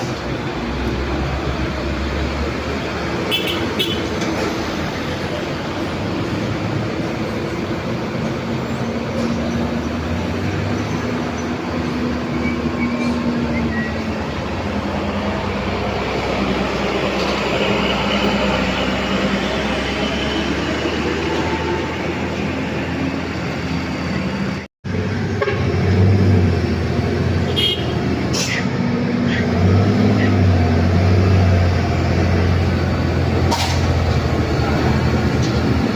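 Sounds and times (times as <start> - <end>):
heavy trucks labouring uphill: 0.0 - 35.9.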